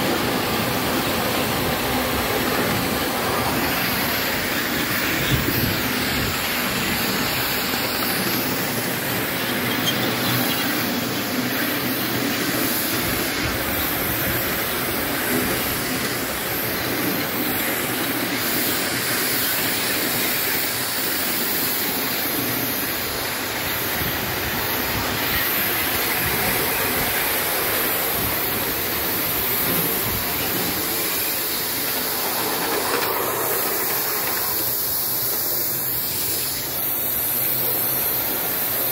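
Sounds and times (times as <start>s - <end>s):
steam hissing: 0.0s - 38.9s
wheels running on rails: 0.0s - 38.9s.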